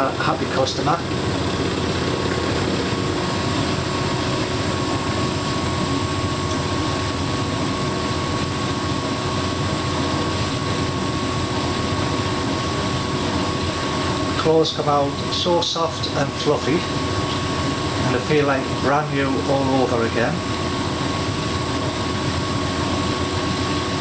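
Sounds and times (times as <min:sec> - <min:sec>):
tumble dryer whirring: 0:00.0 - 0:24.0.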